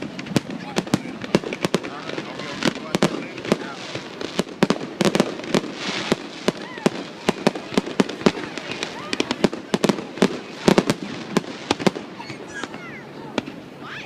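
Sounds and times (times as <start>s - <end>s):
fireworks bangs and cracks: 0.0s - 13.8s
faint firework whistles: 2.6s - 14.0s.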